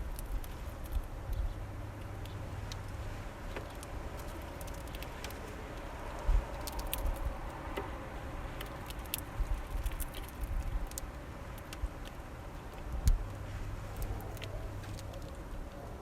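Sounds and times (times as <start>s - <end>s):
beaks pecking and cracking seeds: 0.0s - 16.0s.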